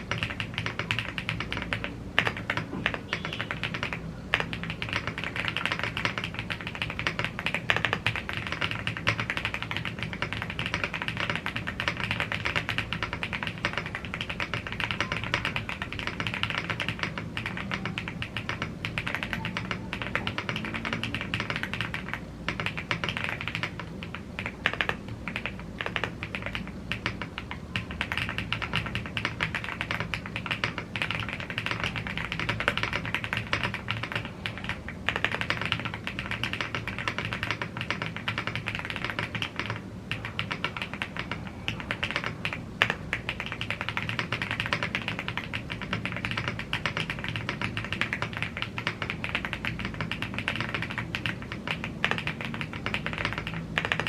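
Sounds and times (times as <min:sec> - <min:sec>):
typing on mechanical keyboard: 0:00.0 - 0:54.0.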